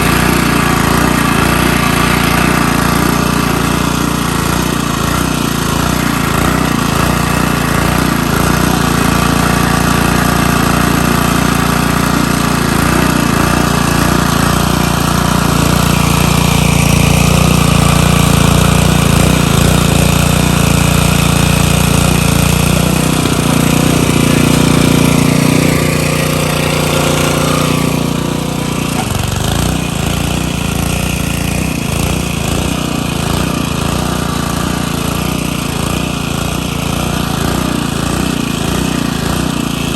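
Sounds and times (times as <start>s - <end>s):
small gasoline engine running hard: 0.0s - 39.9s.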